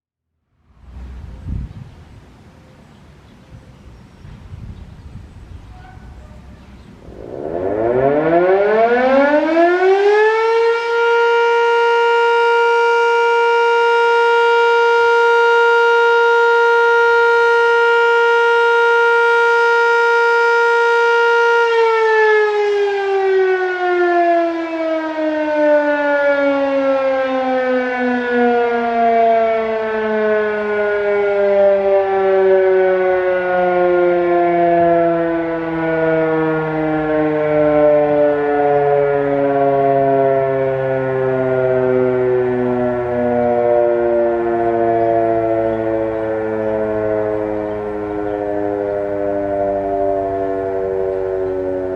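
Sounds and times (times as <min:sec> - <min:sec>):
warning siren: 0:03.6 - 0:51.9.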